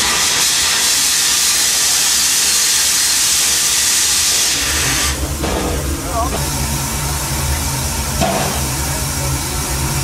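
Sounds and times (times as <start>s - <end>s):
steam locomotive hissing steam: 0.0s - 10.0s.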